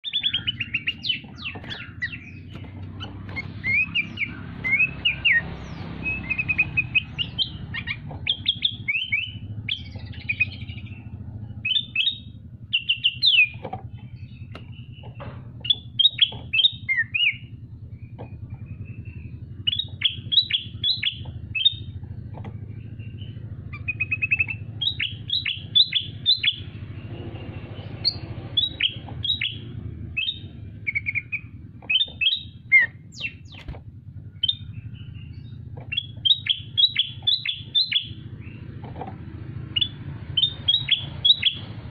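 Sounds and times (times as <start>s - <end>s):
songbird chirping: 0.0s - 41.9s.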